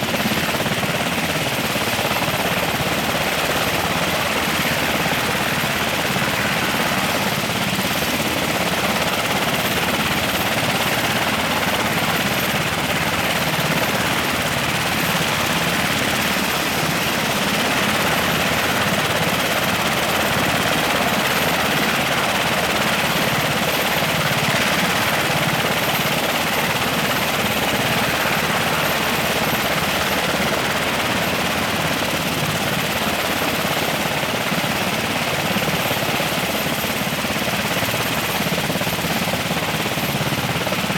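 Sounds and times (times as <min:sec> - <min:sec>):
helicopter engines and rotor: 0:00.0 - 0:40.9.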